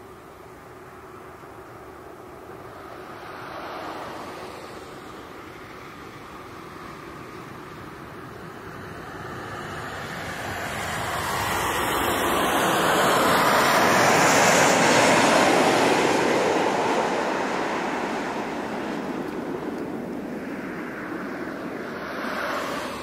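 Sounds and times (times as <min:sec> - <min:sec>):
jet engines on takeoff: 0:00.0 - 0:23.0.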